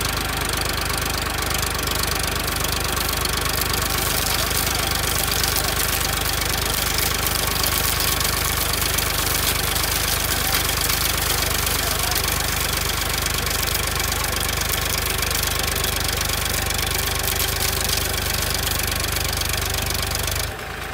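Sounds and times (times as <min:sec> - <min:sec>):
tractor diesel engine clattering: 0:00.0 - 0:20.9.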